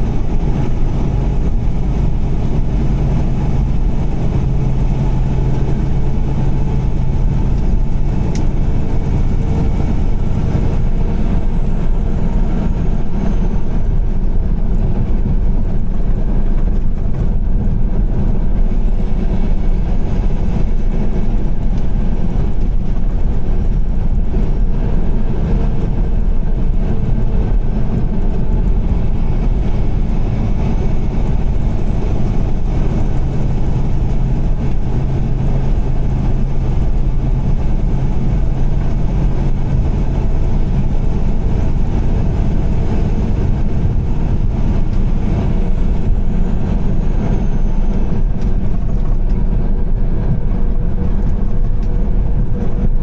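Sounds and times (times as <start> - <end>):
tyre and engine rumble: 0.0 - 53.0.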